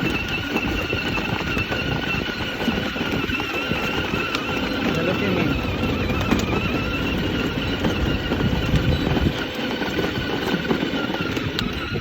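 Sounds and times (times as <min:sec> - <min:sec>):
toy car wheels rumbling: 0:00.0 - 0:12.0.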